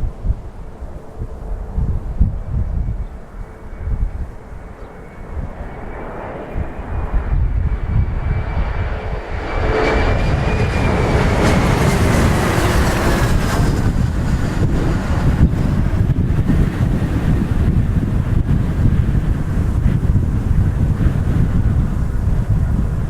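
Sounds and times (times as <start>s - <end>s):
wind rumbling on microphone: 0.0s - 23.0s
jet engines whining: 0.9s - 23.0s.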